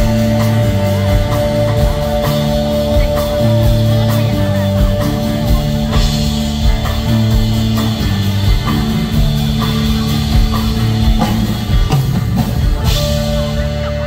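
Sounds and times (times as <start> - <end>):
drum kit beat: 0.0 - 14.0
electric guitar: 0.0 - 14.0.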